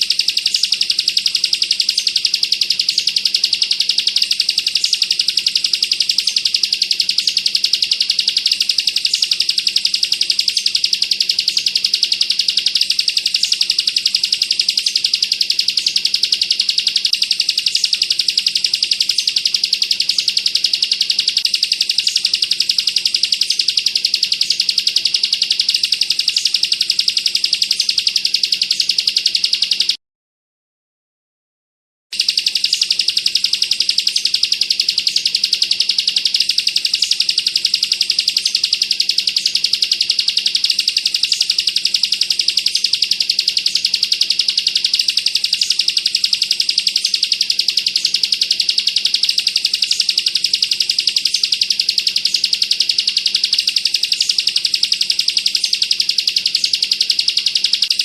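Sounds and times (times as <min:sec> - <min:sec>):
bird rapid ticking trill: 0:00.0 - 0:30.0, 0:32.1 - 0:58.0.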